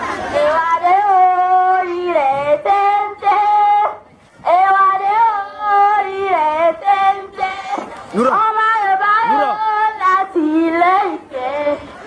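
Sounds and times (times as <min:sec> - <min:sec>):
person singing in a high voice: 0:00.4 - 0:12.0.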